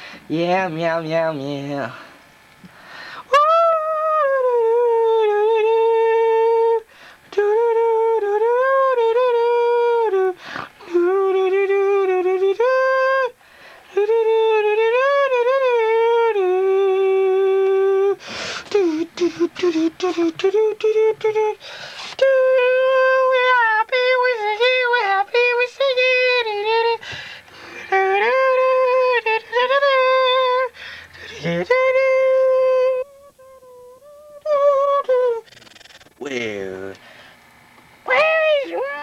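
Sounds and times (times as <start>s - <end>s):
person humming a slow tune: 3.2s - 37.0s.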